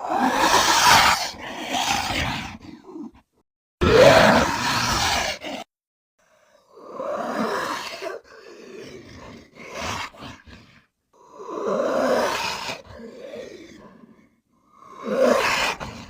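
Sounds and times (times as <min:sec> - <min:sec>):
creature roaring: 0:00.0 - 0:03.2, 0:03.8 - 0:05.7, 0:06.6 - 0:16.0
creature growling: 0:00.0 - 0:05.7, 0:06.5 - 0:16.0.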